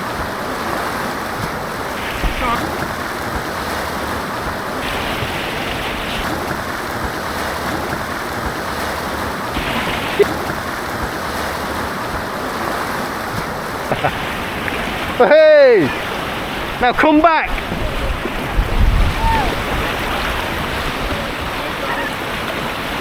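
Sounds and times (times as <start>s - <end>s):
white water rushing: 0.0s - 23.0s.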